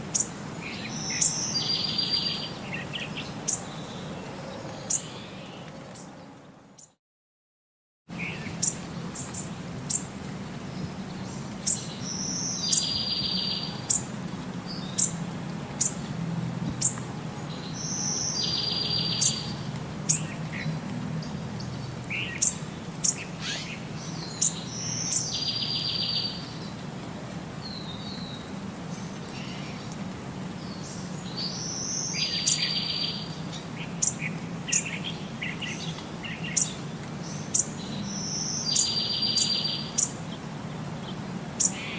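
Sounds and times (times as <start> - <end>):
birds chirping: 0.1 - 7.0, 8.2 - 15.2, 16.7 - 26.8, 27.6 - 41.9.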